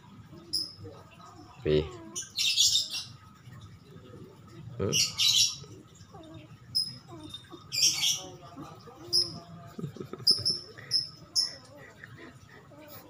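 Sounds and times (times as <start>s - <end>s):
small birds chattering: 0.3s - 13.0s.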